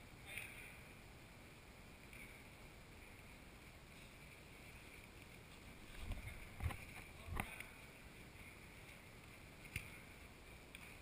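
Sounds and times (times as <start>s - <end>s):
indoor hall background noise: 0.0s - 11.0s.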